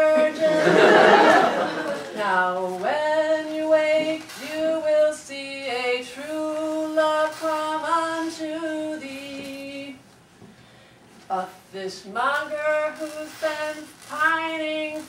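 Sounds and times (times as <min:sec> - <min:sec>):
woman singing wordless melody: 0:00.0 - 0:01.3, 0:02.1 - 0:10.0, 0:11.3 - 0:15.0.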